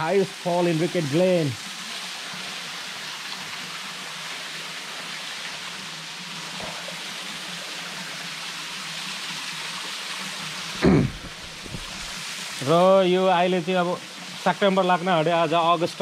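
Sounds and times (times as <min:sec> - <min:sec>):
waterfall splashing: 0:00.0 - 0:16.0.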